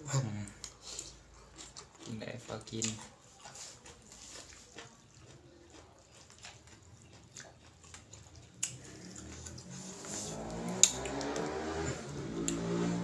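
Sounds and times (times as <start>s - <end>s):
chewing: 0.4s - 11.7s.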